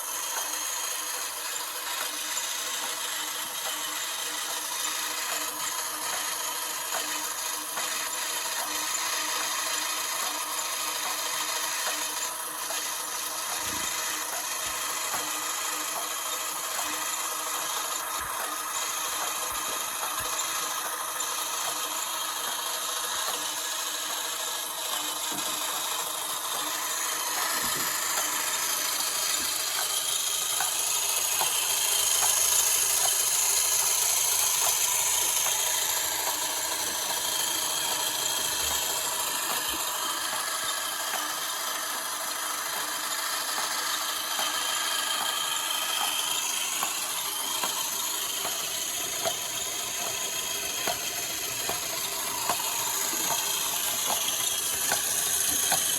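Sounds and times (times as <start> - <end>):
small power tool running: 0.0 - 55.9.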